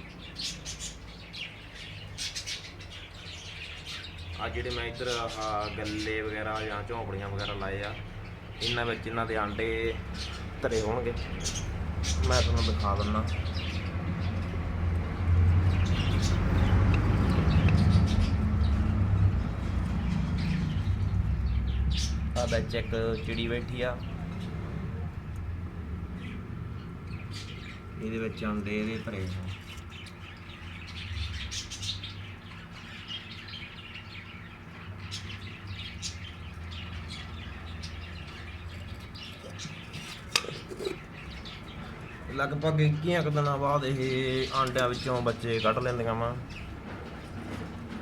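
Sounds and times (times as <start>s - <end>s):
budgerigars chirping: 0.0s - 24.5s, 26.2s - 46.7s.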